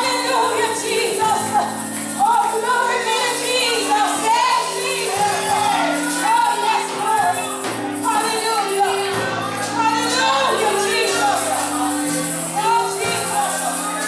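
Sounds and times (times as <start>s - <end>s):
gospel singing: 0.0s - 14.0s
held chords: 0.0s - 14.0s.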